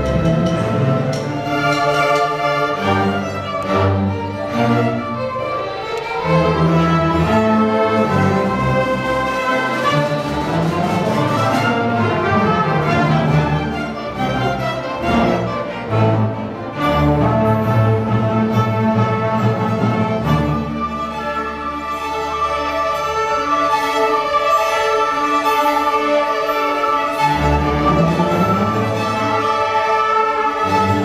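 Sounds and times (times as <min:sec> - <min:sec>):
orchestral strings playing: 0:00.0 - 0:31.0.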